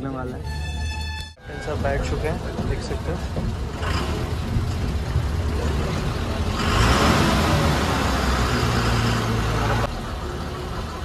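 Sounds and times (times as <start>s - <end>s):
diesel engine idling: 1.4s - 11.0s.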